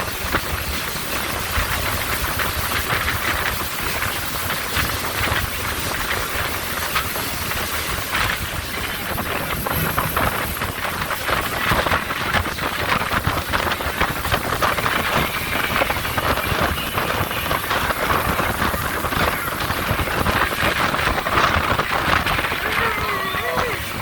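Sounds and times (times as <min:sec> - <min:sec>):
speedboat engine and water rush: 0:00.0 - 0:24.0.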